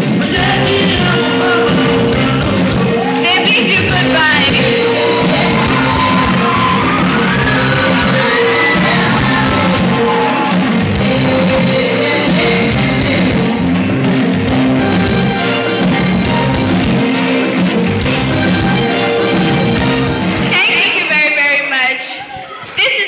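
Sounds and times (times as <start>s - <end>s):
loud music: 0.0s - 23.0s.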